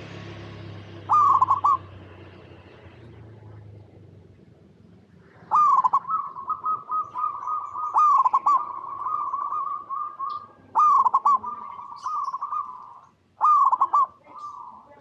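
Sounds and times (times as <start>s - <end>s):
dove cooing: 0.0s - 3.8s, 5.2s - 15.0s.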